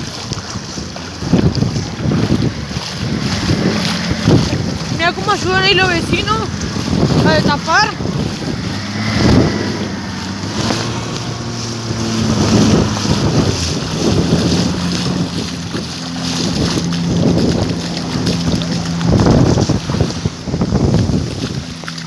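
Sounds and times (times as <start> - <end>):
engine humming: 0.0 - 22.0
wind buffeting microphone: 0.0 - 22.0.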